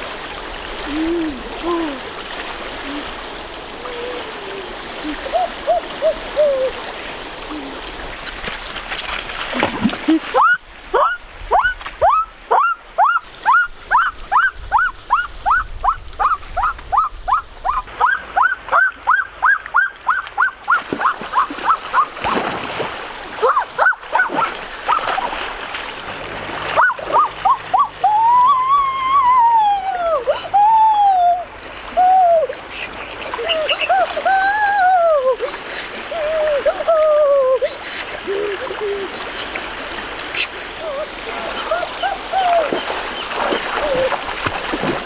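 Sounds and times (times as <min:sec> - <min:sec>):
river water running: 0:00.0 - 0:45.0.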